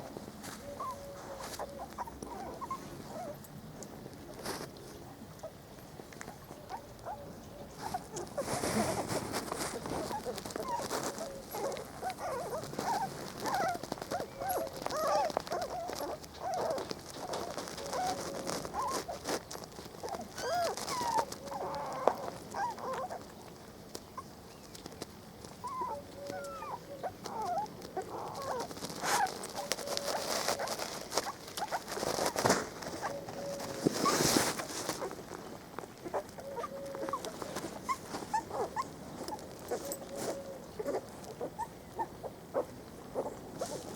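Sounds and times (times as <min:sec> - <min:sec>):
puppies whimpering and squealing: 0:00.6 - 0:03.4, 0:06.2 - 0:19.4, 0:20.0 - 0:23.2, 0:25.6 - 0:35.1, 0:36.0 - 0:43.8.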